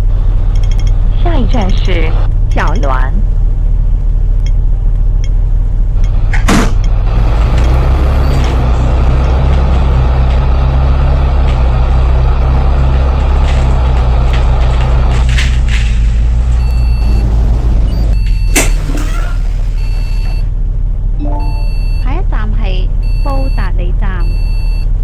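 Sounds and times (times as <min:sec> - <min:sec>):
bus engine droning: 0:00.0 - 0:25.0.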